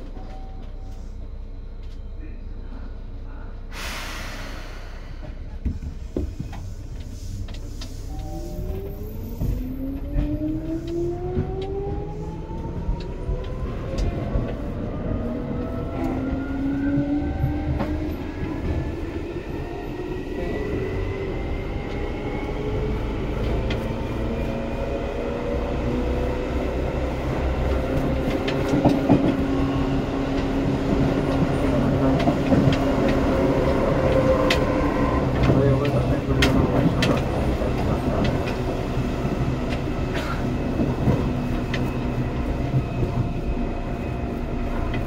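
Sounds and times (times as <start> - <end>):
train motor and gear whine: 0.0 - 45.0.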